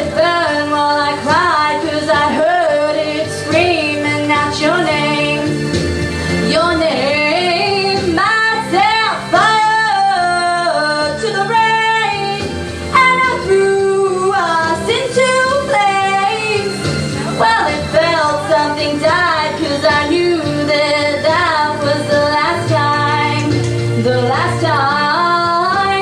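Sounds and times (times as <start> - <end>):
backing track music: 0.0 - 26.0.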